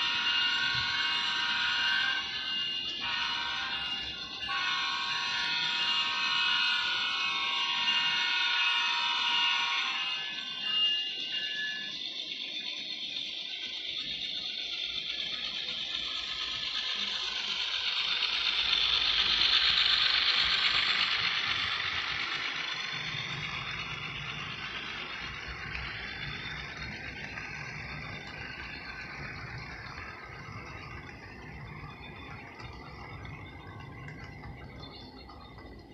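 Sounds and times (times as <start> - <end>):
model locomotive running: 0.0 - 35.9
wheels rattling on track: 0.0 - 35.9.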